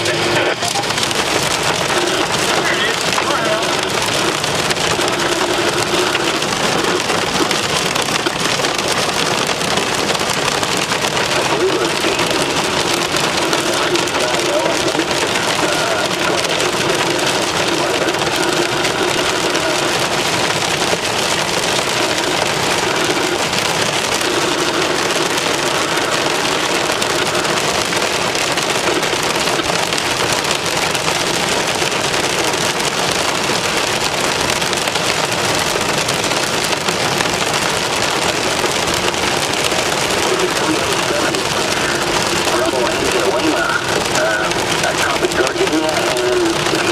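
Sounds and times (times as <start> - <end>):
hail clattering on vehicle roof: 0.0 - 46.9.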